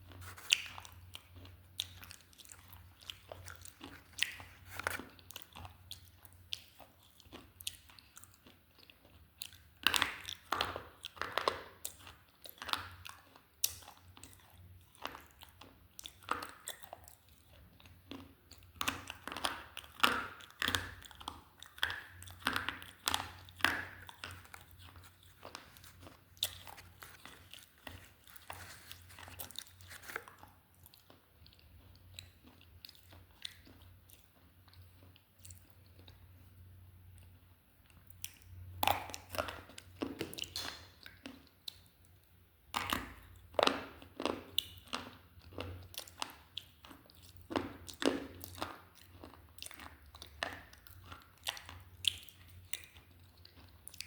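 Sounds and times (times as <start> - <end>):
slate pencil being chewed: 0.0 - 36.2, 42.8 - 54.0.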